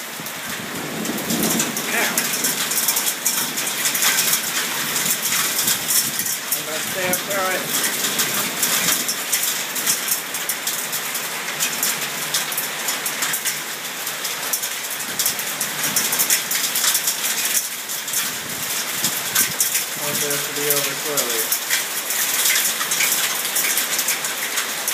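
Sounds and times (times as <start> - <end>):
heavy rain pouring: 0.0 - 24.9
raindrops ticking on hard surfaces: 0.0 - 24.9.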